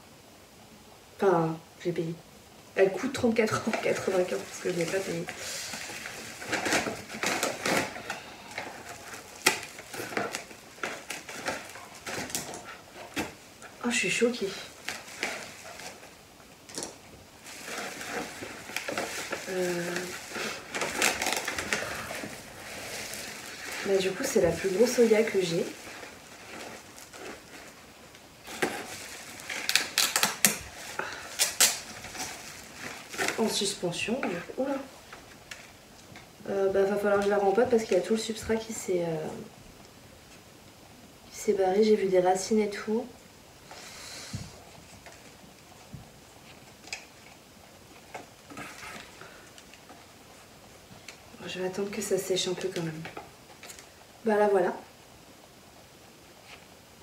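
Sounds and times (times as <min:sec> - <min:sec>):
packaging rustling and crinkling: 0:03.0 - 0:40.5, 0:43.6 - 0:54.2.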